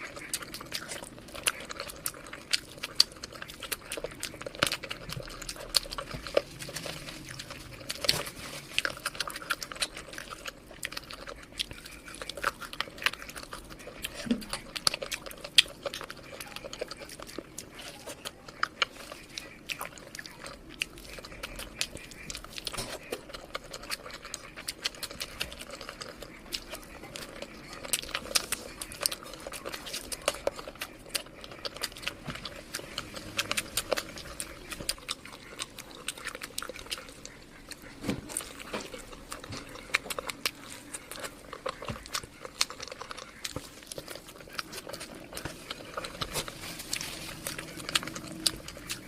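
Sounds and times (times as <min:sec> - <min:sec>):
close chewing with mouth clicks: 0:00.0 - 0:49.0.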